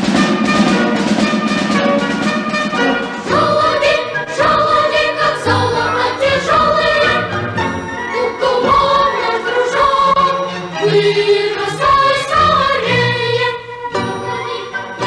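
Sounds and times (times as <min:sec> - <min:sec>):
choir singing held notes: 0:00.0 - 0:15.0.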